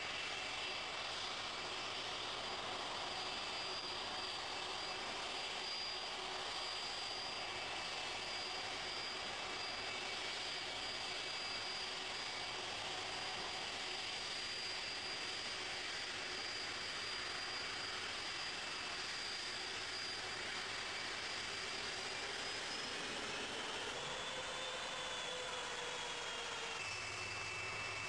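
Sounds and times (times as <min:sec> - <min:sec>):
high jet whine: 0:00.0 - 0:28.0
jet engines running: 0:00.0 - 0:28.0.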